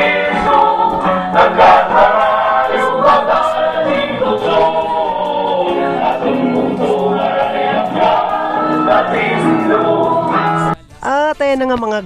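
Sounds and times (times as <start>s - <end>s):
choir singing a hymn: 0.0s - 10.8s.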